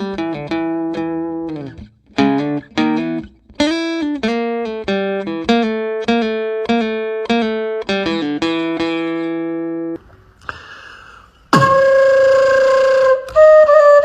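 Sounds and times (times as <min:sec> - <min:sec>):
plucked guitar melody: 0:00.0 - 0:10.4, 0:11.5 - 0:14.0.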